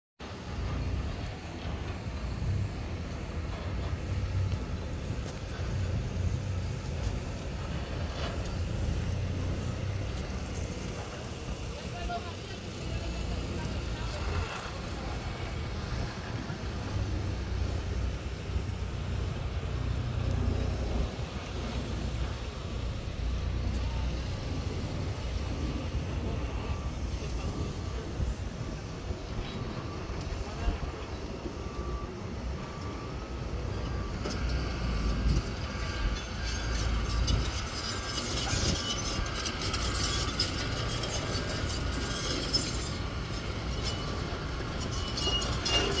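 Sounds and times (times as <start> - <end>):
jet engines rumbling: 0.2 - 46.0.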